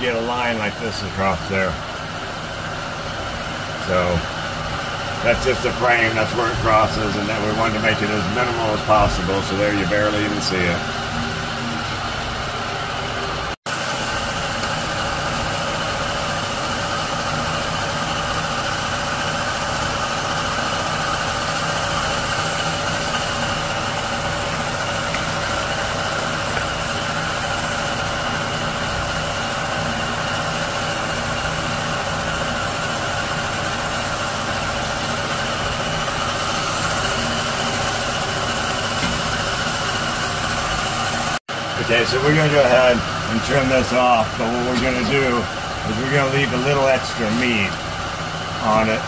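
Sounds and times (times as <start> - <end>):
mechanical hum of machine: 0.0 - 49.0.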